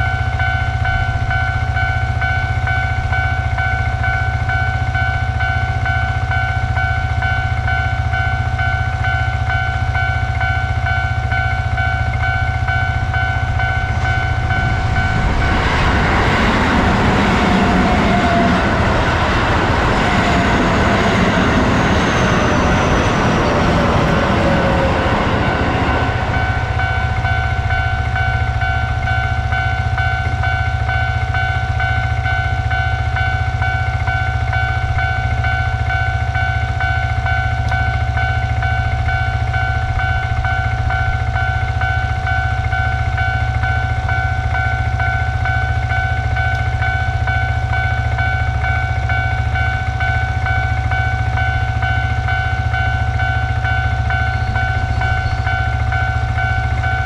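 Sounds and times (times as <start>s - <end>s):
electric train passing: 0.0s - 57.0s
railroad crossing warning bell: 0.0s - 57.0s
train whine: 0.0s - 57.0s.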